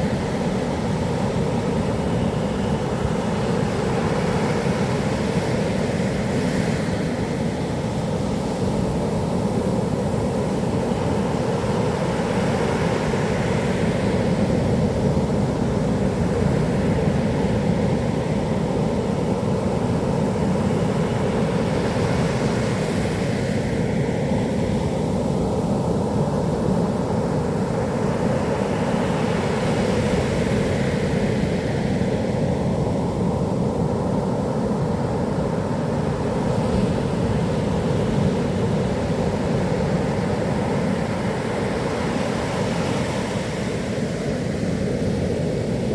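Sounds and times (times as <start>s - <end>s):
heavy surf roaring: 0.0s - 45.9s.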